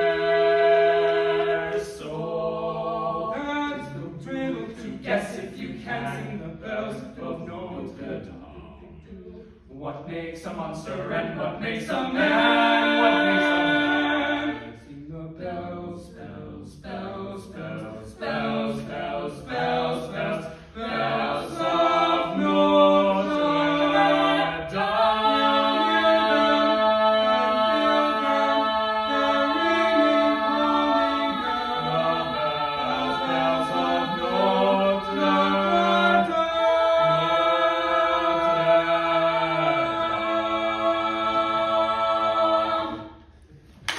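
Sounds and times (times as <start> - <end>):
a cappella ensemble singing: 0.0 - 43.9.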